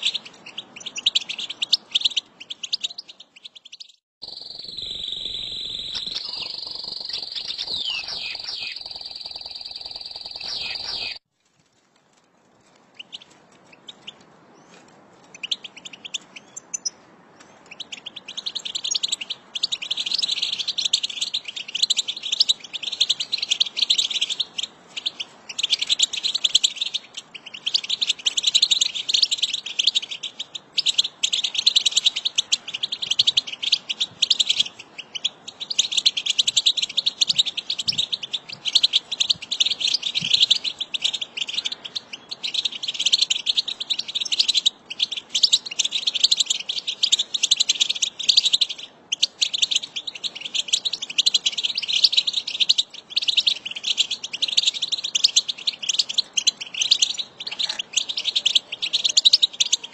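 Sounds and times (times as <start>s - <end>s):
birds twittering and chattering: 0.0s - 11.3s, 13.0s - 59.9s.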